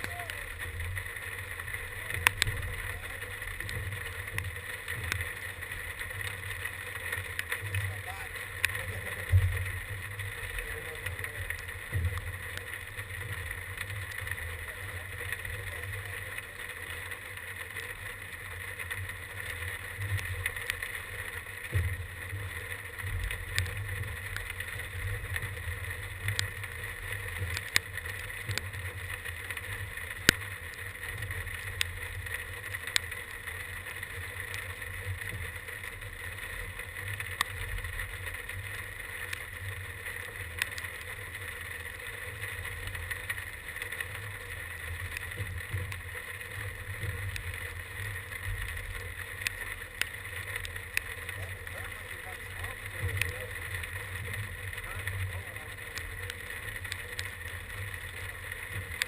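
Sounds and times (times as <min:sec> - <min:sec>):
light ticks: 0:00.0 - 0:59.0
wind rumbling on microphone: 0:00.0 - 0:59.0.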